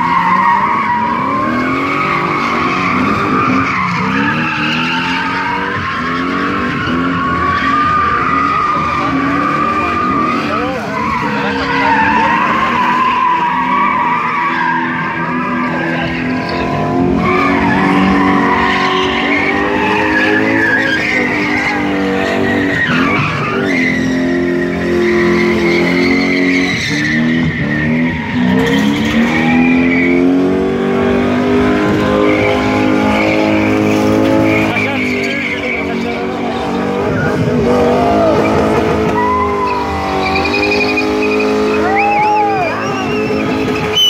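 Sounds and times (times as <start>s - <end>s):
car engine revving: 0.0s - 44.0s
tyres squealing on asphalt: 0.0s - 44.0s.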